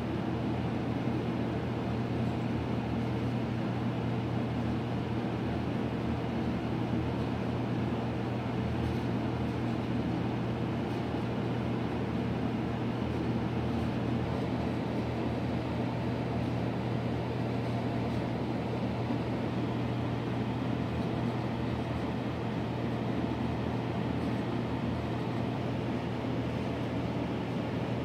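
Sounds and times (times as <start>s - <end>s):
sewage pump running: 0.0s - 28.0s.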